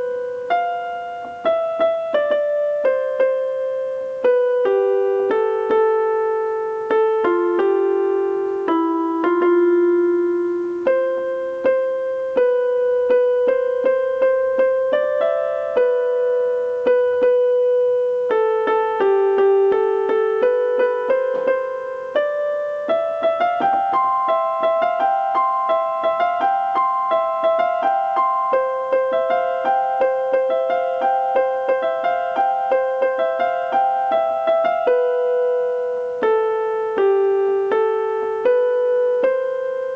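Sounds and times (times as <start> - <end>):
gentle piano melody: 0.0 - 39.9.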